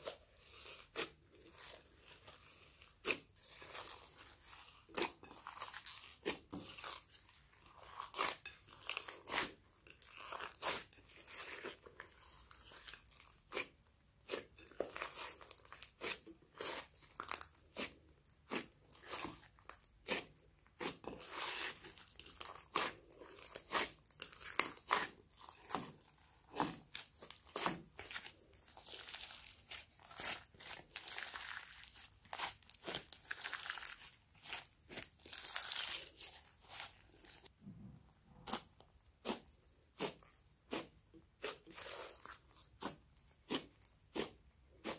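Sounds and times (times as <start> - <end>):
slime squishing with pops and crunches: 0.0 - 44.9.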